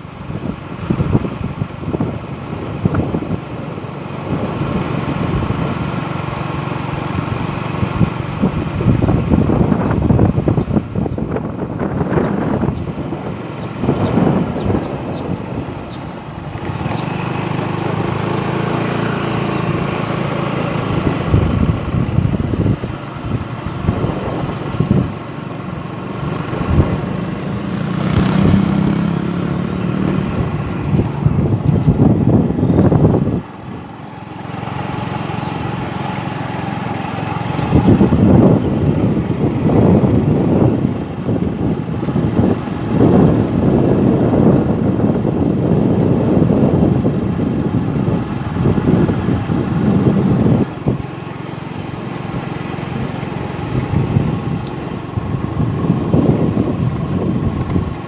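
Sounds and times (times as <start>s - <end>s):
motorbike engine running: 0.0s - 58.0s
wind buffeting microphone: 0.0s - 58.0s.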